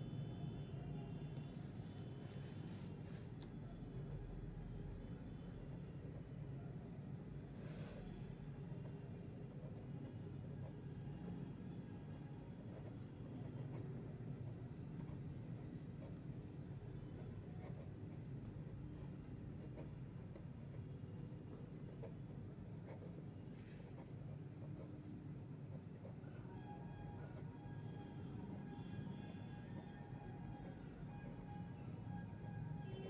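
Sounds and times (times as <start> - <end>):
low background hum: 0.0 - 33.0
pen scratching on paper: 5.6 - 6.8, 7.6 - 33.0.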